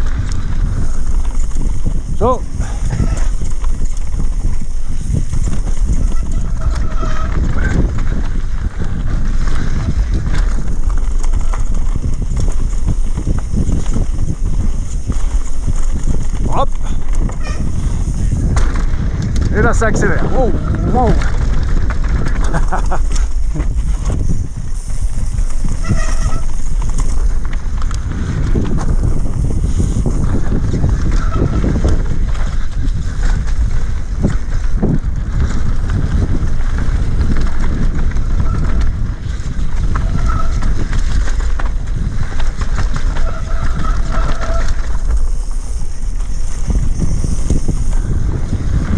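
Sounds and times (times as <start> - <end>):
bike knocking and rattling: 0.0 - 48.9
bike tyres rolling on dirt: 0.0 - 48.9
wind noise on microphone: 0.0 - 48.9.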